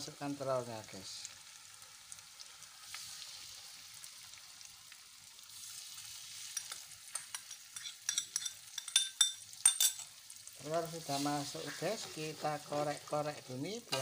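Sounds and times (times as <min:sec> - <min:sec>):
egg sizzling in hot oil: 0:00.0 - 0:14.0.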